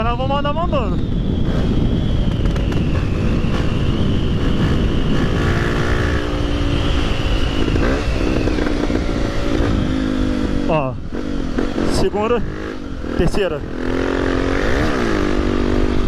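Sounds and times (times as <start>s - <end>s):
motorcycle engine pulling hard: 1.4s - 16.0s.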